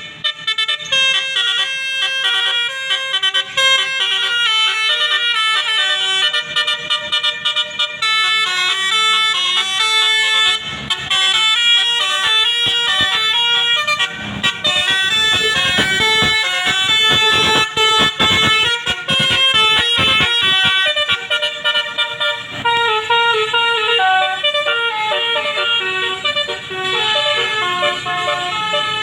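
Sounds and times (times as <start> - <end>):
bus musical air horn: 0.0 - 29.0.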